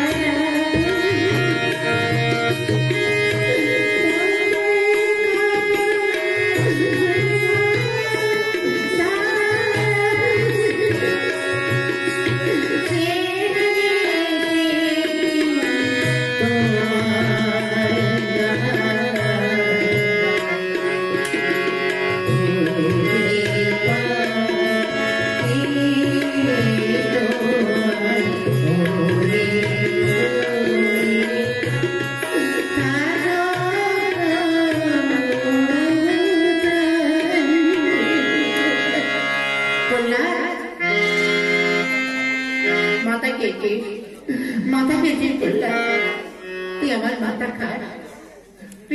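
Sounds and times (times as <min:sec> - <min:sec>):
person singing devotional song: 0:00.0 - 0:43.0
tabla rhythm: 0:00.0 - 0:48.9.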